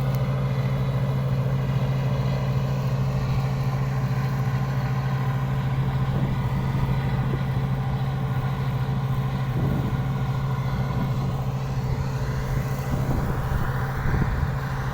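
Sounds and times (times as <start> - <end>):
harvester engine humming: 0.0 - 14.9.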